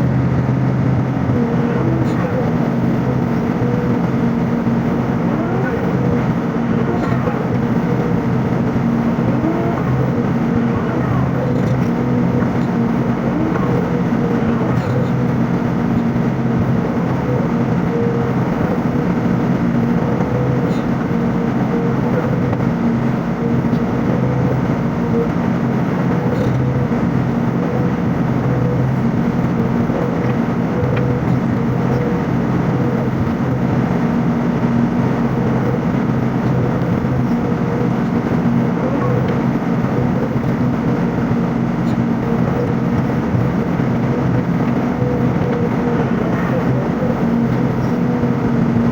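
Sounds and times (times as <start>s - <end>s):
excavator diesel engine drone: 0.0s - 48.9s.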